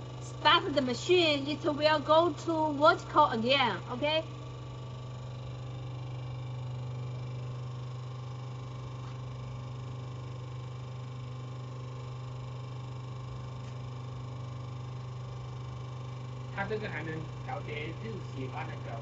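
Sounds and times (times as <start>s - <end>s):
machine low hum: 0.0s - 19.0s.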